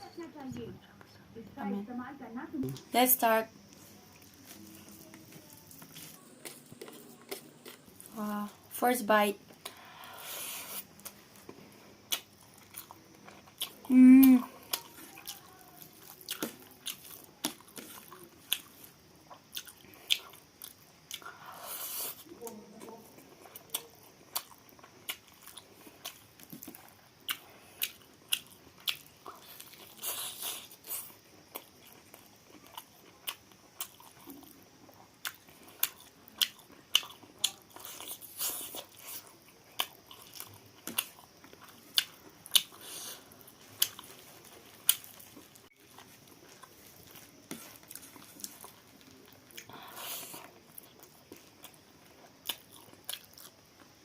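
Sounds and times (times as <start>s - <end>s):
chewing food: 3.6s - 8.7s, 9.5s - 54.0s.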